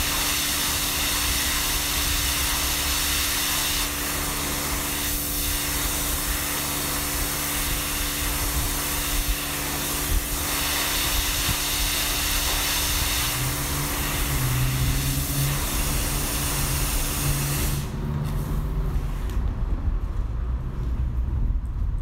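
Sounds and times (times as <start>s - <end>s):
detailing machine jet hiss: 0.0s - 18.6s.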